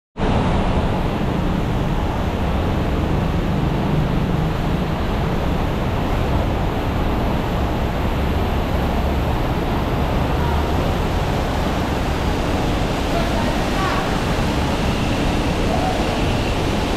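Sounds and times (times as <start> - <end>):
traffic rumble: 0.2 - 16.9
fountain water splashing: 0.8 - 16.9.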